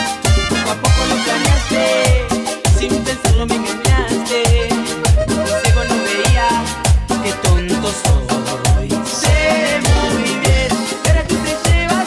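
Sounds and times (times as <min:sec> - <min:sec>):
cumbia dance music: 0:00.0 - 0:12.0.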